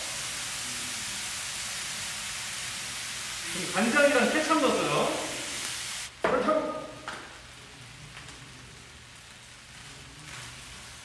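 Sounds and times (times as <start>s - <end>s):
faint hiss: 0.0s - 11.0s
food sizzling in a frying pan: 0.0s - 11.0s.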